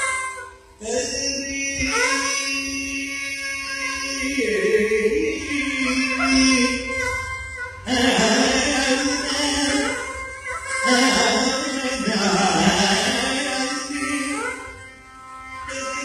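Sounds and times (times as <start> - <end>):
violin accompaniment: 0.0 - 16.0
man singing classical vocals: 0.8 - 7.1, 7.8 - 14.8, 15.6 - 16.0.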